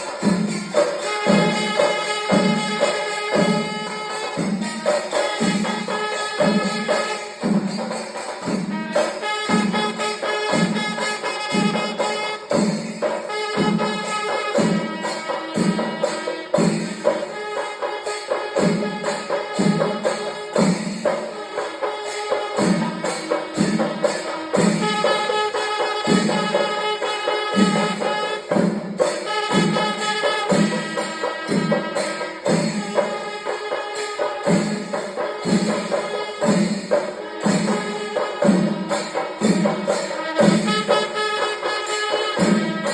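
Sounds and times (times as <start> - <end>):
cymbals ringing: 0.0 - 42.9
drums beating a steady rhythm: 0.0 - 42.9.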